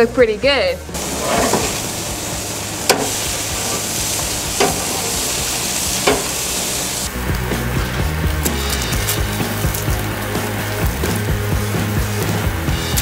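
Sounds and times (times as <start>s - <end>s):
patties sizzling on a grill: 1.0s - 13.0s.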